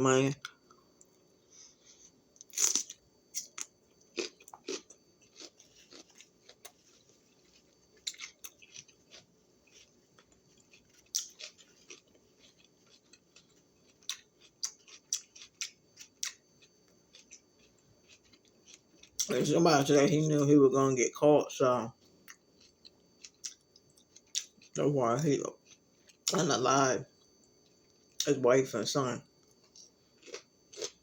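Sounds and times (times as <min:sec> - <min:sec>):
crunching and chewing bell pepper: 0:02.4 - 0:20.8, 0:21.9 - 0:28.4, 0:29.4 - 0:31.0.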